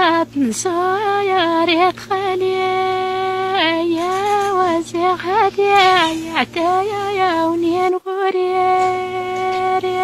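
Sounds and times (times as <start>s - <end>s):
woman singing a long note: 0.0s - 10.0s.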